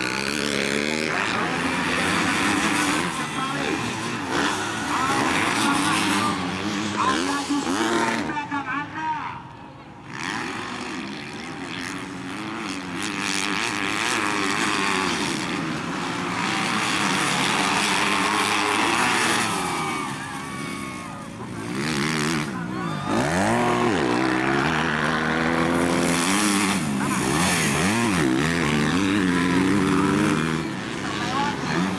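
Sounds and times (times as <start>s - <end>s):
racing motorcycle engines revving: 0.0s - 31.9s.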